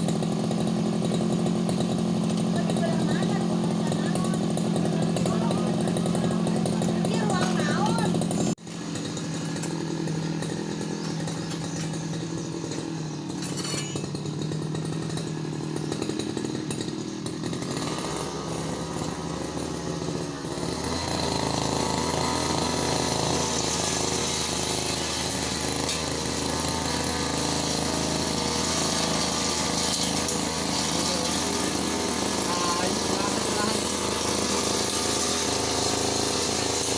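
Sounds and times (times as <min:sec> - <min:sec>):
brush cutter engine running: 0:00.0 - 0:36.9.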